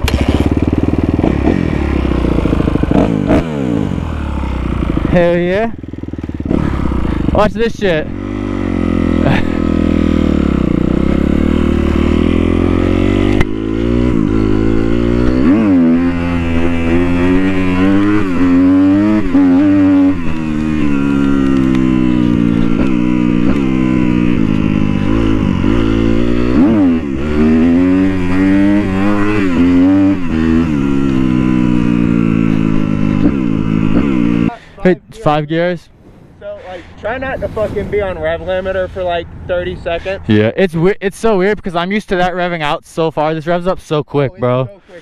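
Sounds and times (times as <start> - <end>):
motorcycle engine revving: 0.0 - 40.6.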